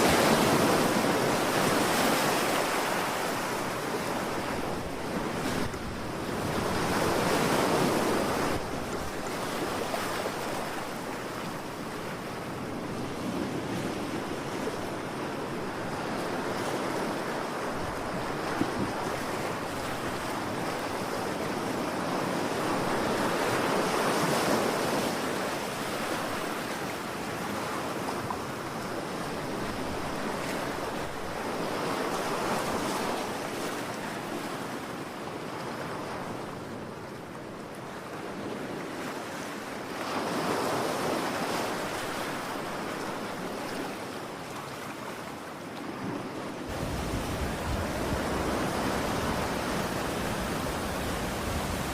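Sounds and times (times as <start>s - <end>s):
ocean waves: 0.0s - 51.9s.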